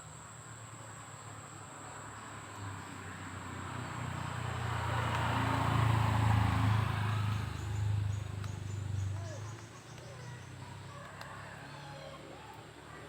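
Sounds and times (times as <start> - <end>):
vehicle engine hum passing: 0.0 - 13.0.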